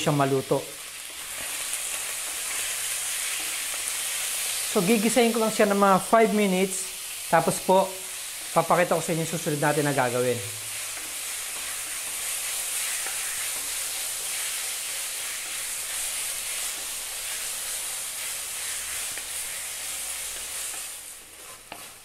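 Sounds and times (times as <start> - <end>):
beef sizzling in hot oil: 0.0 - 22.0.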